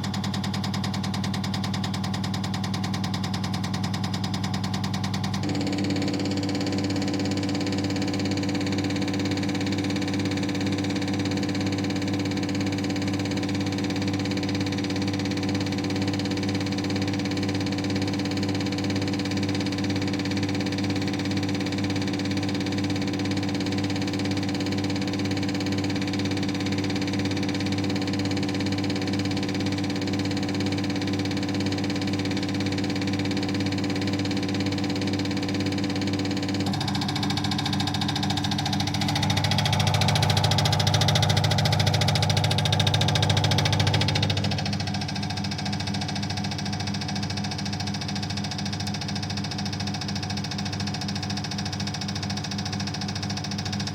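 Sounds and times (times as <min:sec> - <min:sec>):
machine hum with regular pulsing: 0:00.0 - 0:53.9.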